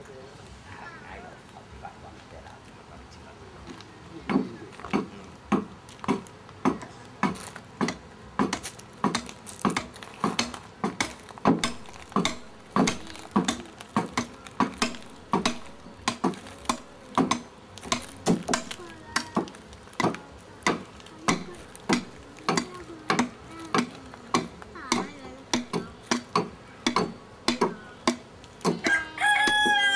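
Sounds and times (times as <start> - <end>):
hand tool chopping into wood: 4.3 - 29.8.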